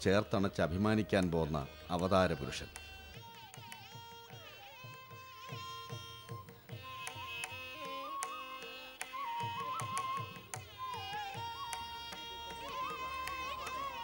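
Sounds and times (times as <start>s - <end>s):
ornamented melody: 0.0s - 14.0s.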